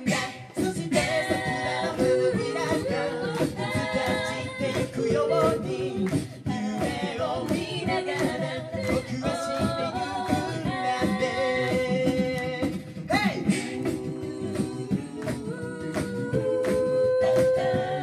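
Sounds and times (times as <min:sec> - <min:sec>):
a cappella group singing in harmony: 0:00.0 - 0:18.0
vocal percussion beat: 0:00.0 - 0:18.0.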